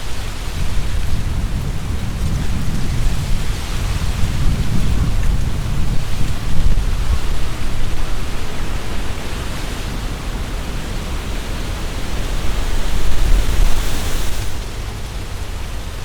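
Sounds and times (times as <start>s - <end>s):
wind buffeting the microphone: 0.0s - 16.0s
wind rustling tree leaves: 0.0s - 16.0s.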